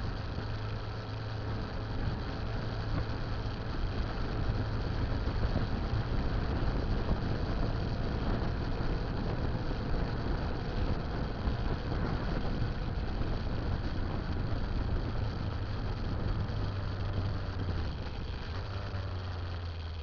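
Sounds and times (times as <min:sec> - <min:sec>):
motorcycle engine humming: 0:00.0 - 0:20.0
wind and road noise: 0:00.0 - 0:20.0.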